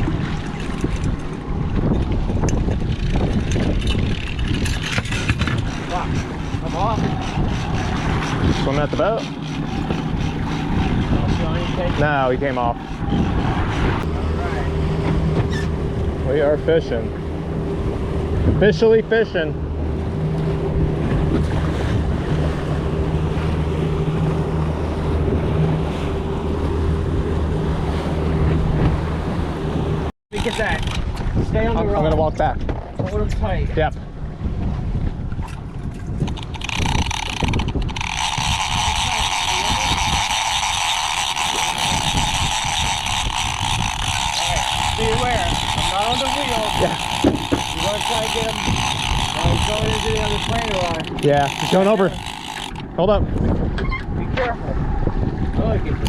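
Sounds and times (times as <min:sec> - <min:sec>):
boat motor running: 0:00.0 - 0:56.0
water along hull: 0:00.0 - 0:56.0
wind buffeting microphone: 0:00.0 - 0:56.0.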